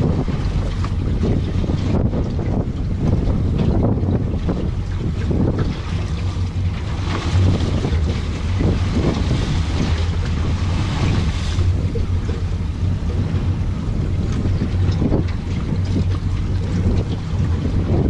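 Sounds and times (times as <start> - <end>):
boat engine idling: 0.0 - 18.0
waves against hull: 0.0 - 18.0
wind buffeting microphone: 0.0 - 18.0.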